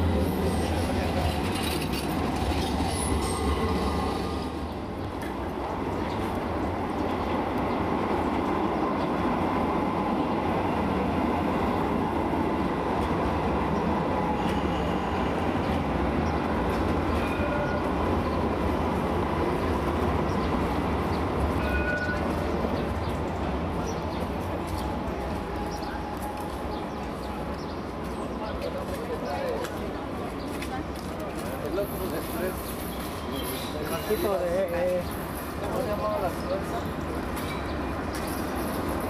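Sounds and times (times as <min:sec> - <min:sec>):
tram rumbling past: 0:00.0 - 0:39.0.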